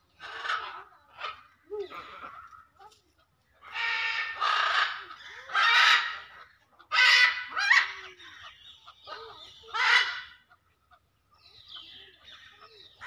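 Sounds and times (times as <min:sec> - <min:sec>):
macaws squawking: 0:00.0 - 0:02.6, 0:03.6 - 0:13.0.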